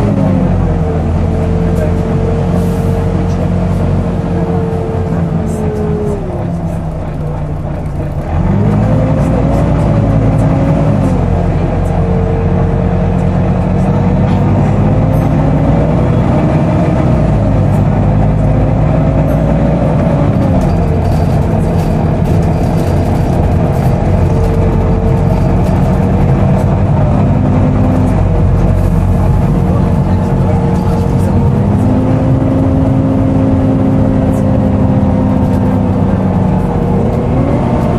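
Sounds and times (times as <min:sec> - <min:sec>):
bus engine pulling: 0:00.0 - 0:37.9.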